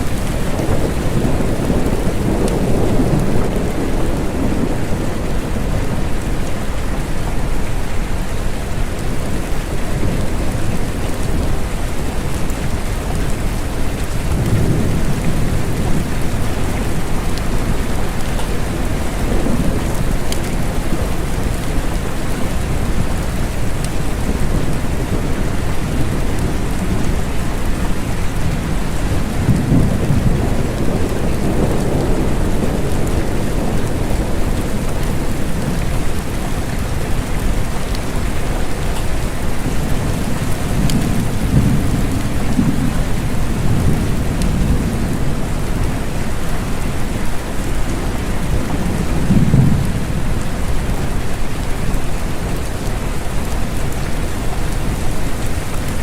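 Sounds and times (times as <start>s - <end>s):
thunder rumbles: 0.0s - 7.2s, 8.0s - 55.8s
steady rain falling: 0.0s - 56.0s.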